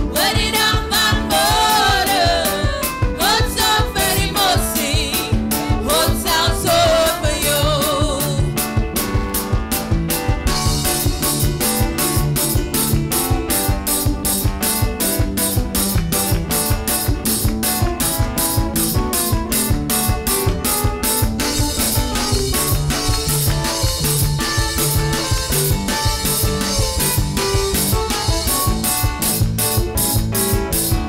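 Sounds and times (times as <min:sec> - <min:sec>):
gospel worship music: 0:00.0 - 0:30.2
drum kit beat: 0:00.0 - 0:31.0
keyboard: 0:00.0 - 0:31.0.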